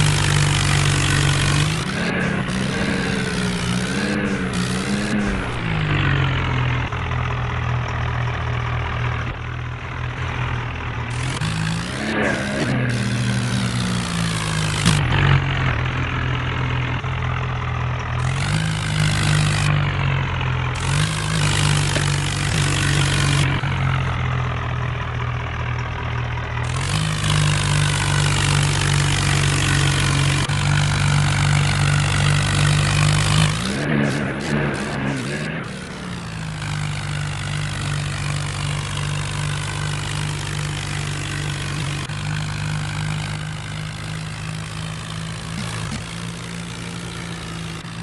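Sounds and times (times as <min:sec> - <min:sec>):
tractor diesel engine under load: 0:00.0 - 0:48.0.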